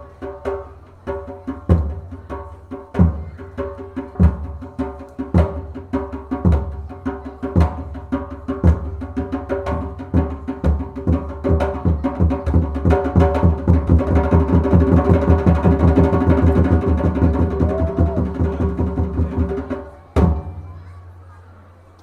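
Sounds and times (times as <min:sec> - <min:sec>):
heavy drum beats: 0:00.0 - 0:20.7.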